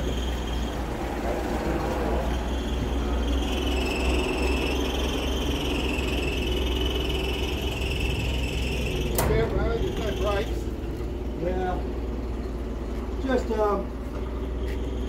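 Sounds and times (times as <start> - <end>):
high steady whine: 0.0 - 12.5
forklift engine rumbling: 0.0 - 15.0.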